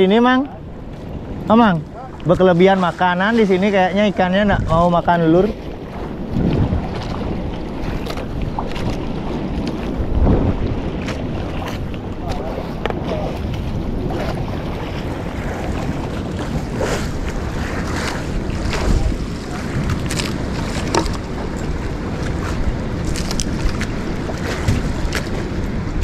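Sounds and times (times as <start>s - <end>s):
water washing against boat hull: 0.0s - 26.0s
wind buffeting microphone: 0.0s - 26.0s.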